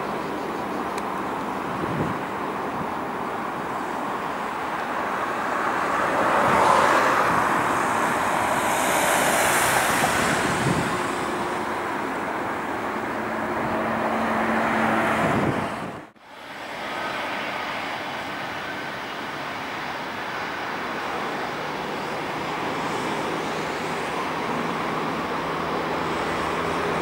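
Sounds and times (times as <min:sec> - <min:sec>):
jet engine roaring: 0:03.6 - 0:27.0.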